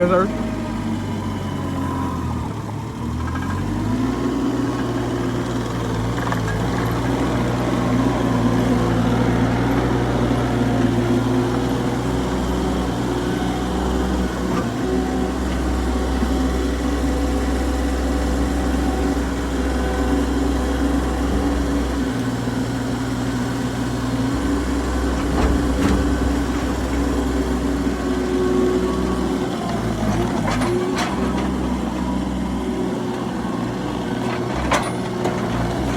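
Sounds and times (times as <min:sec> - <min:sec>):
loader engine droning: 0:00.0 - 0:35.9.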